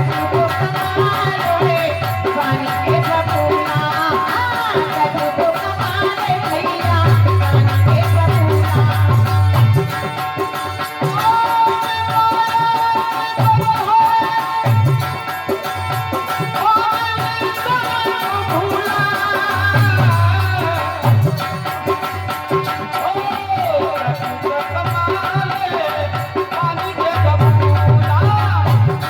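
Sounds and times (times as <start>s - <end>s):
hand drum beat: 0.0s - 29.0s.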